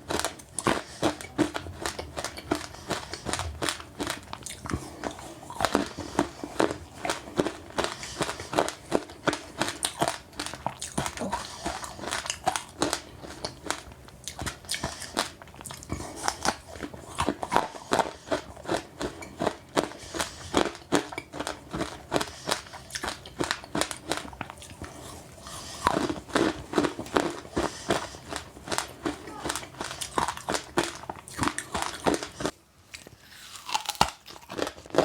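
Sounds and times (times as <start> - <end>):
chewing crunchy seeds: 0.0 - 35.0.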